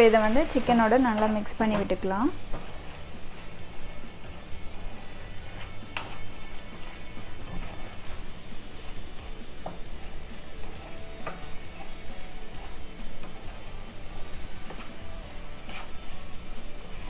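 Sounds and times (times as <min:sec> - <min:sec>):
food sizzling in a frying pan: 0:00.0 - 0:17.0
spatula scraping pan: 0:00.0 - 0:17.0.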